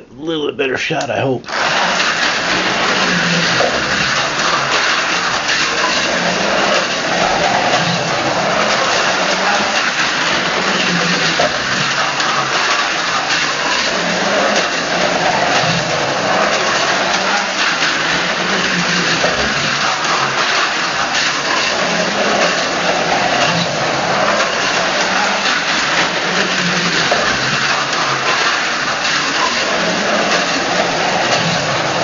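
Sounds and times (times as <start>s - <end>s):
slot car electric motor whir: 1.5s - 32.0s.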